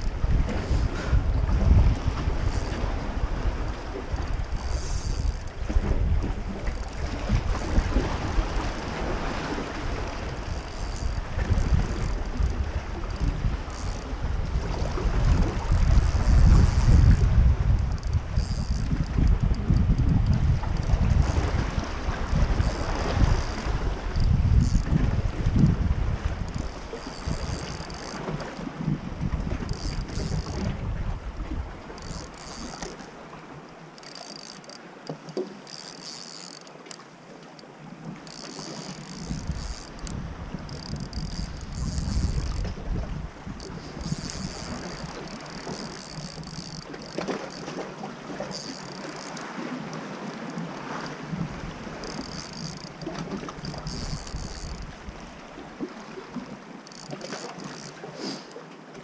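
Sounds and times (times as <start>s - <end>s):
fishing reel ratcheting: 0.0s - 0.3s, 1.1s - 28.7s, 29.4s - 30.9s, 31.8s - 33.1s, 33.9s - 55.2s, 56.8s - 58.6s
wind buffeting microphone: 0.0s - 33.0s, 38.0s - 57.9s
water lapping against rocks: 0.0s - 59.0s.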